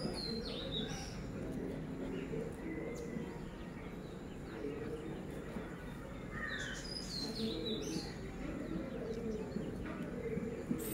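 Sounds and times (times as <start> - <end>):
birds chirping: 0.0 - 10.9
outdoor background noise: 0.0 - 10.9.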